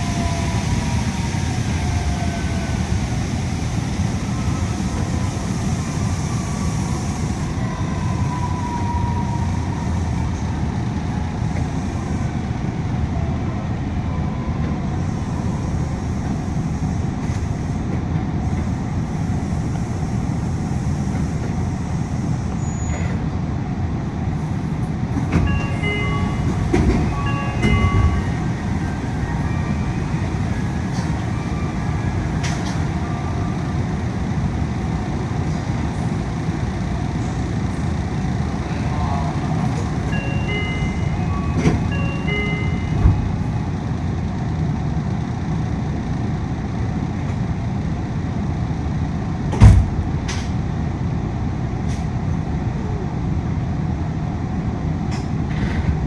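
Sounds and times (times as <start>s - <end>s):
monorail running gear rumble: 0.0s - 56.0s.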